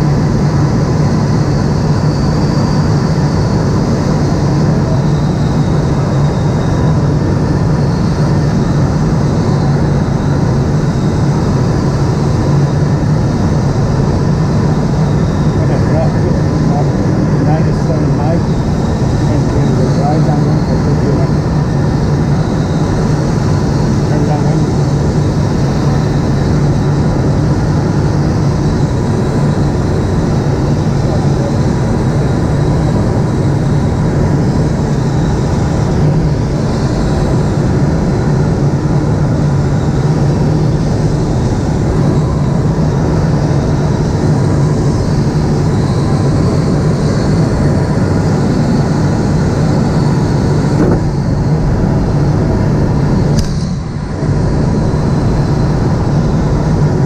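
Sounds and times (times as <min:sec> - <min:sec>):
cockpit rumble and rushing: 0:00.0 - 0:57.0.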